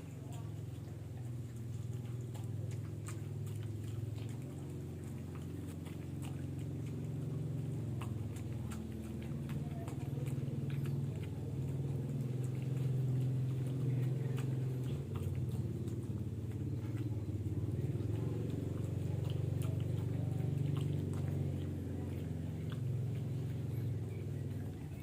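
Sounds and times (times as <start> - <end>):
pets chewing food: 0.0 - 25.0
steady low hum: 0.0 - 25.0.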